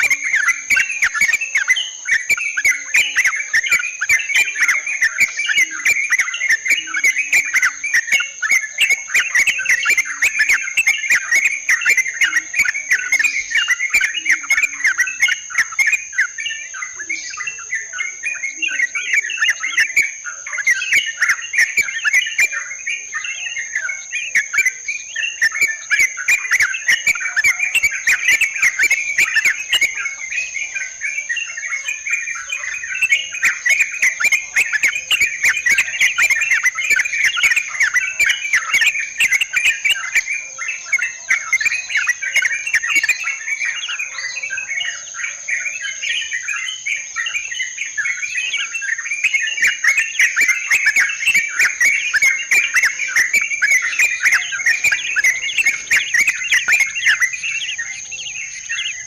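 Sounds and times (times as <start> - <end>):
birds chattering calls: 0.0 - 59.0.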